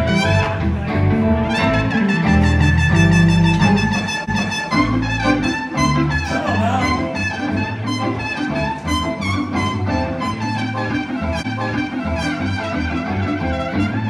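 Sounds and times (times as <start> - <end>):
trumpet lead: 0.0 - 0.7, 1.4 - 14.0
electric guitar: 0.0 - 14.0
live band playing: 0.0 - 14.0.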